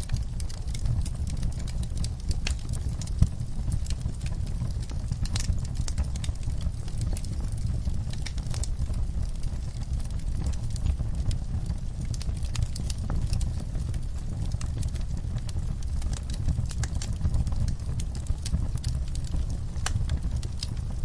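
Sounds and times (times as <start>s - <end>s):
fire burning with low rumble: 0.0s - 21.0s
fire crackling and popping: 0.0s - 21.0s.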